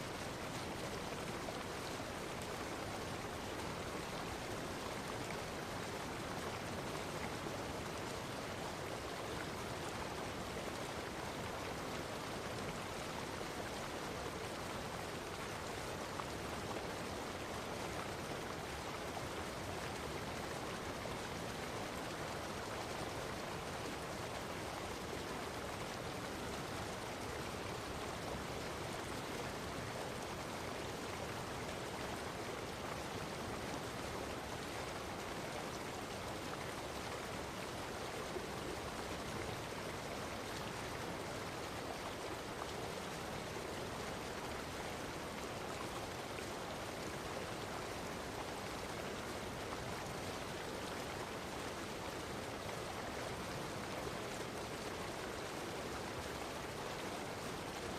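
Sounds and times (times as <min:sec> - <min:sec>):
running water rushing: 0:00.0 - 0:57.9.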